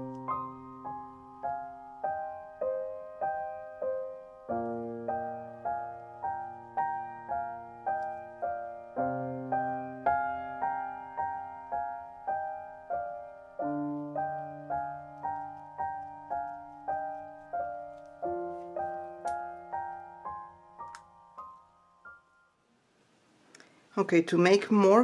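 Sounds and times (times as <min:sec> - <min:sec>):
piano music: 0:00.0 - 0:22.7.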